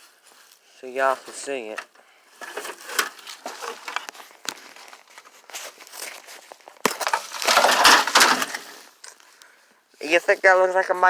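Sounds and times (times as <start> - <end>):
metal scraping and crunching: 0.0 - 9.2.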